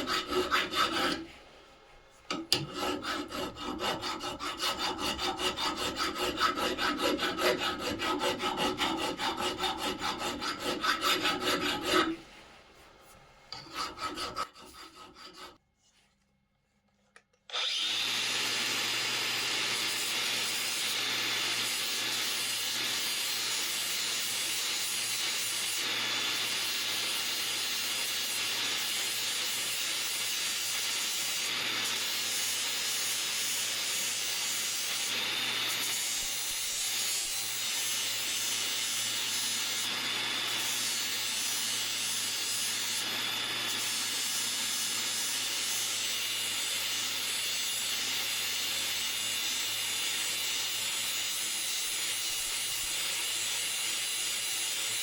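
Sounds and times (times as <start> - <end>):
electric grinder grinding metal: 0.0 - 1.4, 2.3 - 12.2, 17.5 - 55.0.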